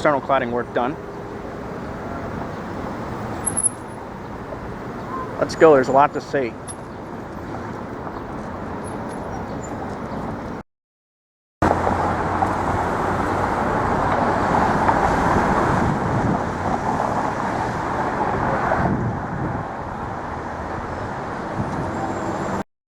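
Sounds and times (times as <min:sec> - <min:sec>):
passing vehicles: 0:00.0 - 0:10.6, 0:11.6 - 0:22.6.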